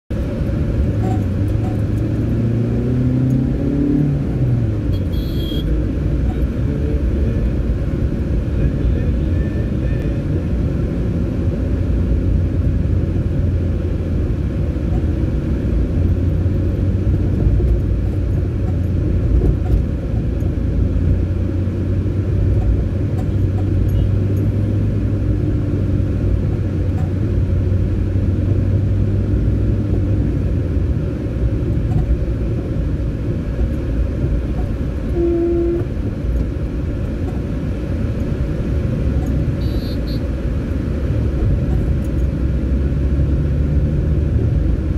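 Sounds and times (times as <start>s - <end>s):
car engine and road rumble: 0.1s - 44.9s.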